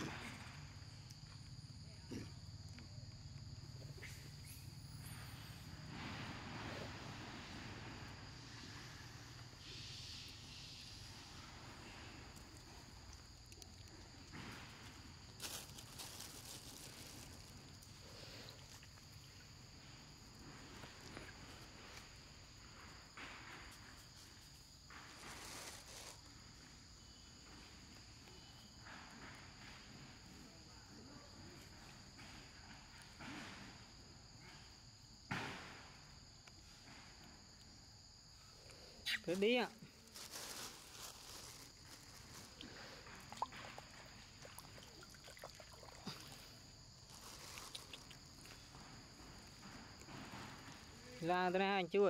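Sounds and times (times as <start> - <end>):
rustles: 3.4 - 30.7, 31.3 - 51.3.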